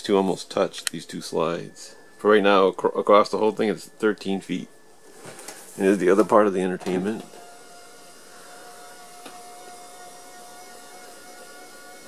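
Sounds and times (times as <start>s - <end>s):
tv lift motor whining: 0.0s - 12.0s.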